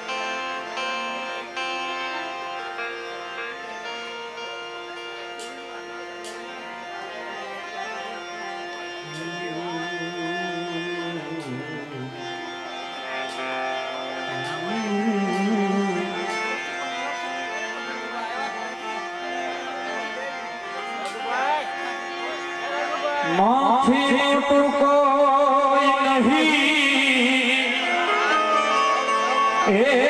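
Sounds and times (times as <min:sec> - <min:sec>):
low wavering melodic line: 0:00.0 - 0:30.0
steady held instrumental tones: 0:00.0 - 0:30.0.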